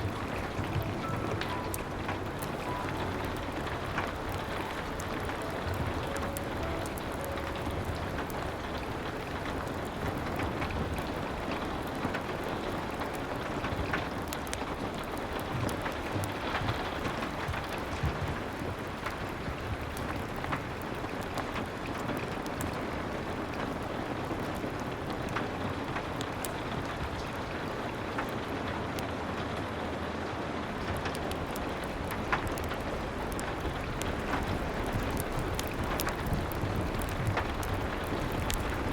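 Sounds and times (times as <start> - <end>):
sharp crackles and ticks: 0.0 - 30.0, 30.8 - 38.9
steady rain falling: 0.0 - 38.9.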